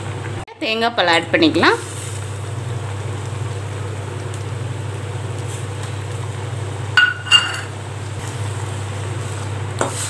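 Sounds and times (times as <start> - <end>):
curry simmering hum and hiss: 0.0 - 10.0.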